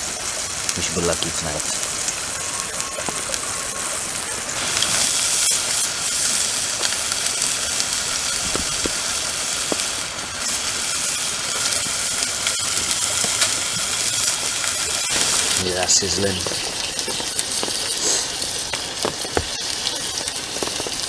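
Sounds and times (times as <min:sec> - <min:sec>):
light rain on a tent: 0:00.0 - 0:21.0
steak sizzling on a camp stove: 0:00.0 - 0:21.0.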